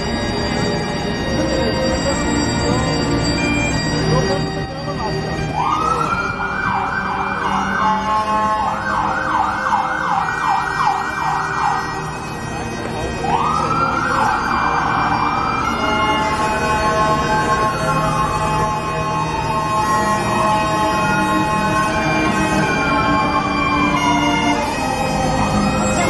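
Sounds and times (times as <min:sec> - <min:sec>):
emergency siren wailing and yelping: 0:00.0 - 0:26.0
fiddle orchestra playing: 0:00.0 - 0:26.0.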